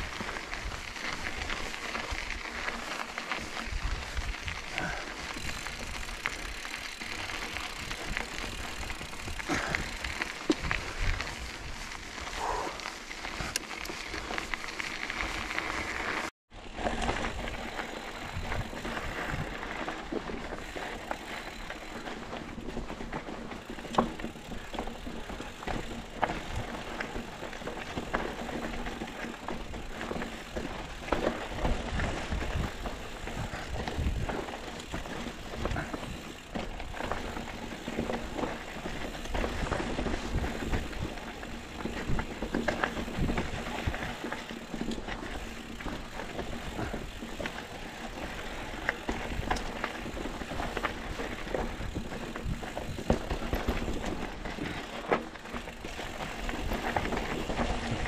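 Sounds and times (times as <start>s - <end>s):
wind noise: 0.0s - 16.0s, 16.7s - 23.2s, 24.0s - 54.9s
bike rattling and knocking: 0.0s - 58.0s
bike tyres on dirt trail: 0.0s - 58.0s.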